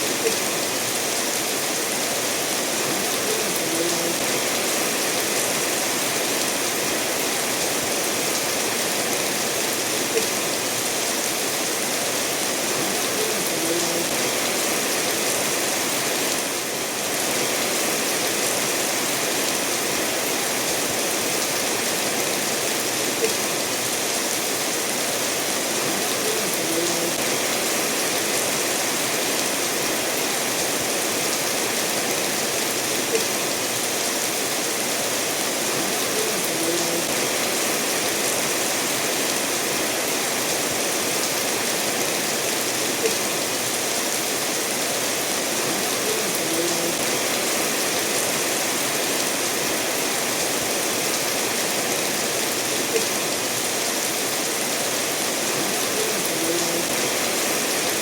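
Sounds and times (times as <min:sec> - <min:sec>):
steady rain falling: 0:00.0 - 0:58.0
stream running over stones: 0:00.0 - 0:58.0.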